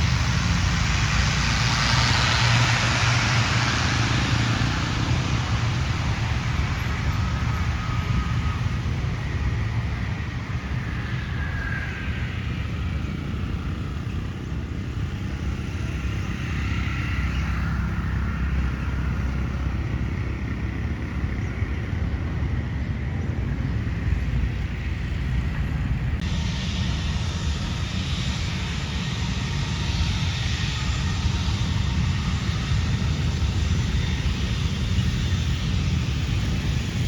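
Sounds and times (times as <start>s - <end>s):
traffic noise: 0.0s - 37.0s.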